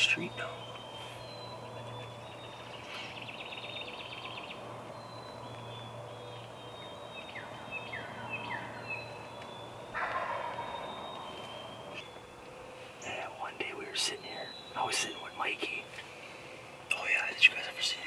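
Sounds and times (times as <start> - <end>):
birds singing: 0.0 - 18.0
low steady hum: 0.0 - 18.0.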